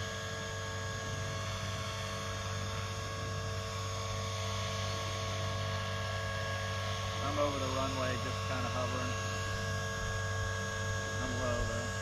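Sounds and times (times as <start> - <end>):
electric model plane motor humming: 0.0 - 12.0.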